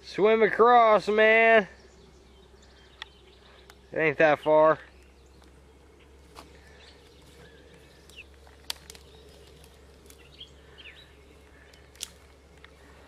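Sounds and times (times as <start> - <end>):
steady low hum: 0.0 - 13.0
bird chirps: 1.6 - 13.0.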